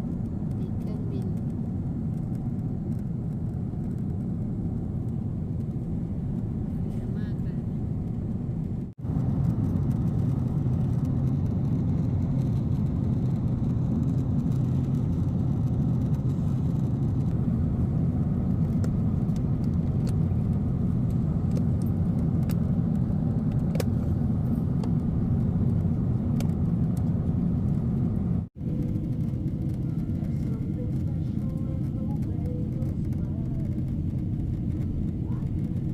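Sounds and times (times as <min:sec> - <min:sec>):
airliner cabin rumble: 0:00.0 - 0:35.9.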